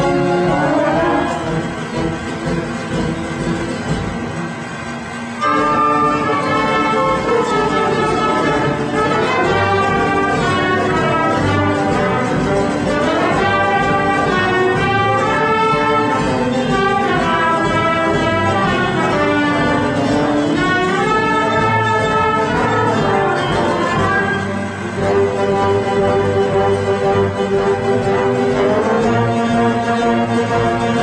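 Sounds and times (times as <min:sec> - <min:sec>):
orchestra brass and strings: 0:00.0 - 0:31.0.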